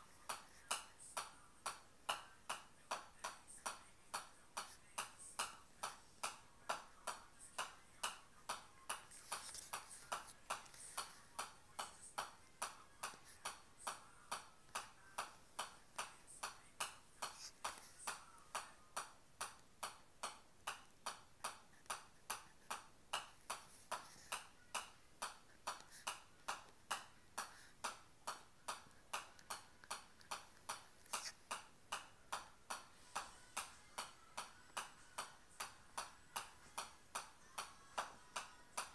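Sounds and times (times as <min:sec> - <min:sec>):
golf ball tapping on club face: 0:04.1 - 0:38.9.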